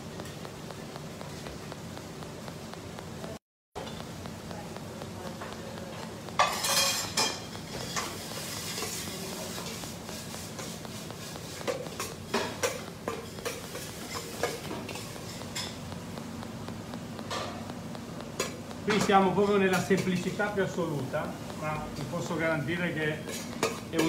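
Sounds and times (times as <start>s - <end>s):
low kitchen hum: 0.0s - 24.0s.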